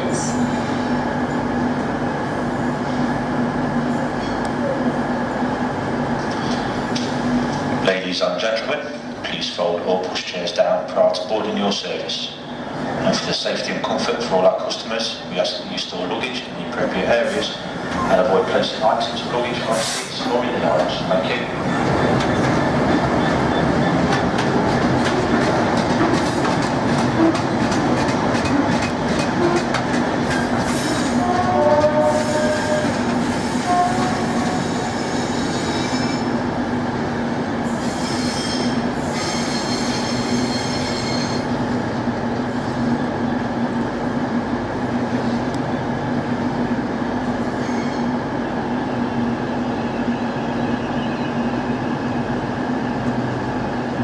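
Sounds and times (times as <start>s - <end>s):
diesel locomotive engine hum: 0.0s - 38.0s, 38.6s - 54.0s.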